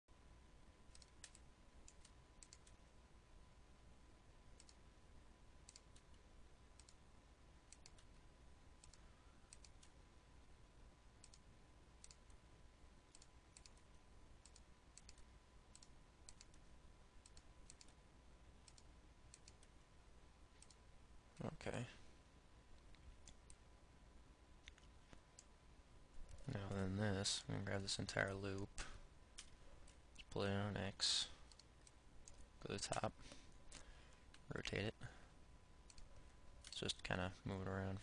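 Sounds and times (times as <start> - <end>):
low steady hum: 0.1 - 38.0.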